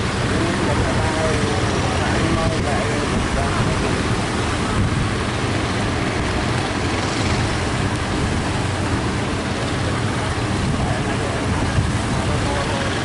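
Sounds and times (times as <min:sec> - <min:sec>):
heavy surf rushing: 0:00.0 - 0:13.0.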